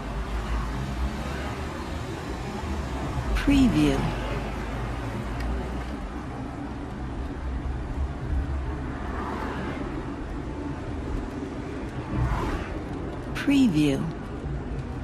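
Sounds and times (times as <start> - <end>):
car interior rumble: 0.0 - 15.0
traffic passing: 0.0 - 15.0.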